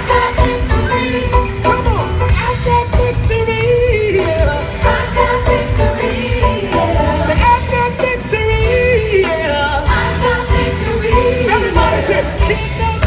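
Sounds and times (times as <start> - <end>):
gospel band with steady beat: 0.0 - 13.0
voices singing: 0.0 - 13.0.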